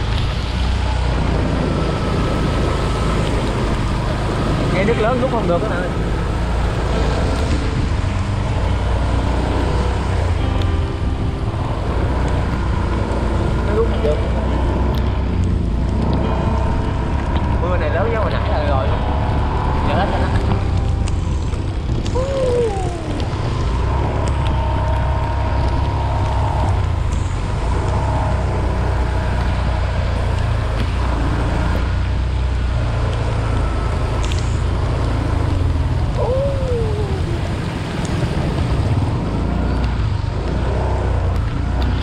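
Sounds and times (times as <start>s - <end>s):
hiss of rain and water: 0.0s - 42.0s
wind rumble on microphone: 0.0s - 42.0s.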